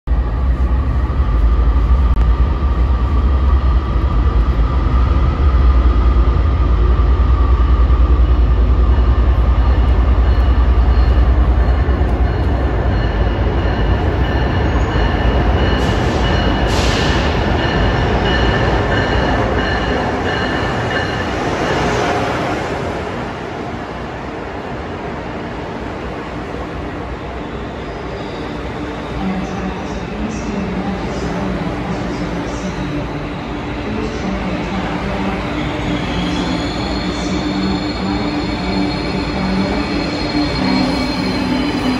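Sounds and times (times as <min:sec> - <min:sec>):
train rumbling and whining: 0:00.1 - 0:41.9.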